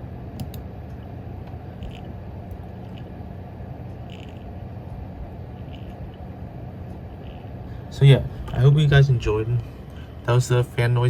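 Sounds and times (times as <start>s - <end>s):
computer fans running: 0.0s - 11.0s.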